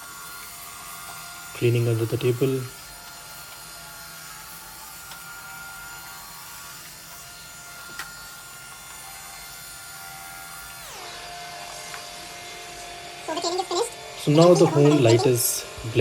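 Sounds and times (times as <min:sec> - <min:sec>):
robot vacuum motor whine: 0:00.0 - 0:16.0.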